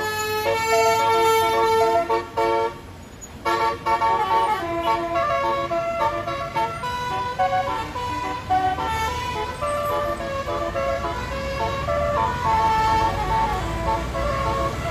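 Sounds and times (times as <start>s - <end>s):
bus musical air horn: 0.0s - 14.9s
low engine rumble: 0.0s - 14.9s.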